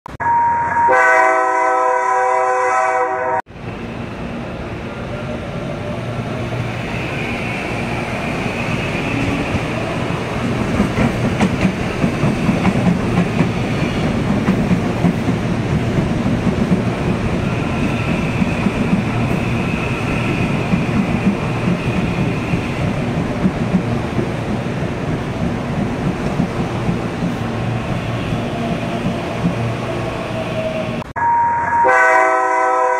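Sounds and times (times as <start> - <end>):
train wheels rumbling on rails: 3.5 - 31.1.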